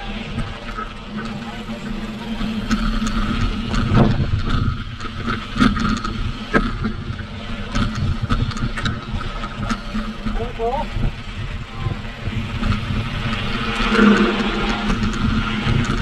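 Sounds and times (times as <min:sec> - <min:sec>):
bike tyres rumbling on dirt: 0:00.0 - 0:16.0
rattling bike parts: 0:00.1 - 0:16.0.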